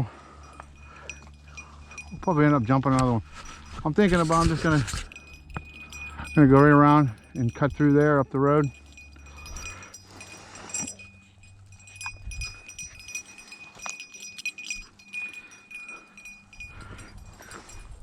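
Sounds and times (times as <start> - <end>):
dog collar bell jingling: 0.0 - 18.0.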